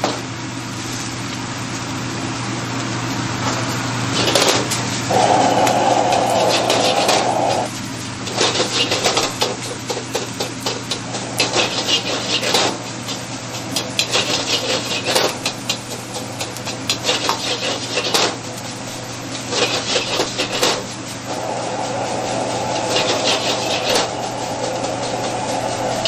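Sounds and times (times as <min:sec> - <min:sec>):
gas burner hiss: 0:00.0 - 0:26.0
spatula scraping and clanking wok: 0:03.5 - 0:26.0.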